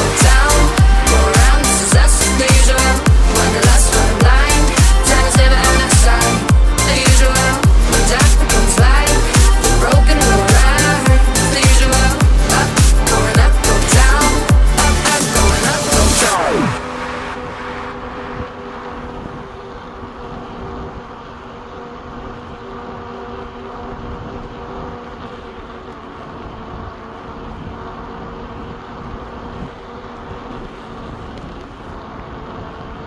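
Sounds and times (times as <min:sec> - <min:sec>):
air-raid sirens wailing: 0:00.0 - 0:33.0
low continuous rumble: 0:00.0 - 0:33.0.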